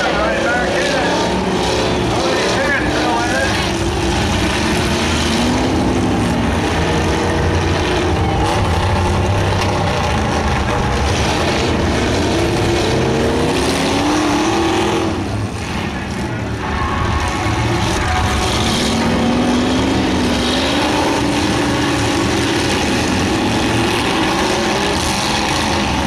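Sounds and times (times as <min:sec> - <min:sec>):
car engines revving: 0:00.0 - 0:26.0
loud steady rumble: 0:00.0 - 0:26.0.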